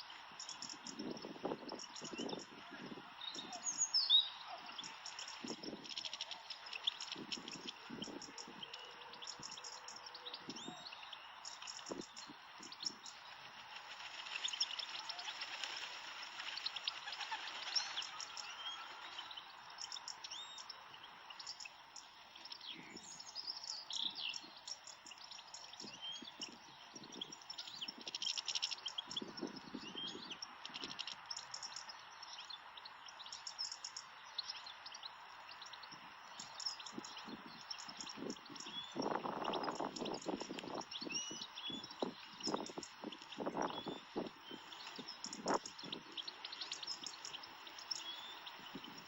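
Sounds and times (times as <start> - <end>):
goldfinches twittering: 0.0 - 49.0
steady background hiss: 0.0 - 49.0.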